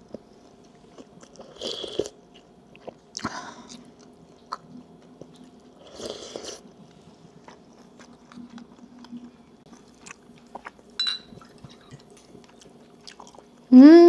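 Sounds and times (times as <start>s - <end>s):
person chewing: 0.0s - 13.6s.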